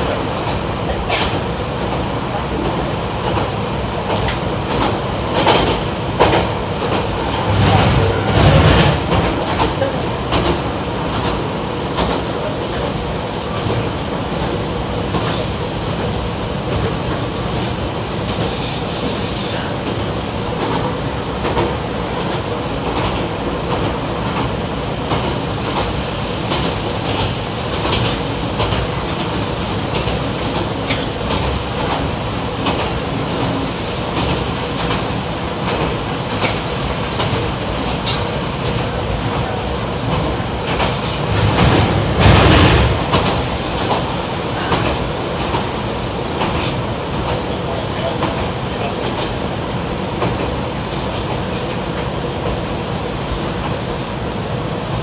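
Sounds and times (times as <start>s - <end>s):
diesel railcar engine rumble: 0.0s - 55.0s.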